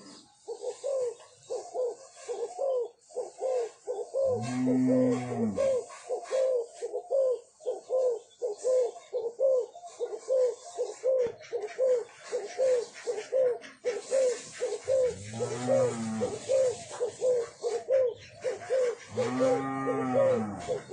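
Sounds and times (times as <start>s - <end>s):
deep drawn-out dove call: 0.0s - 20.9s
doves cooing: 0.0s - 20.9s.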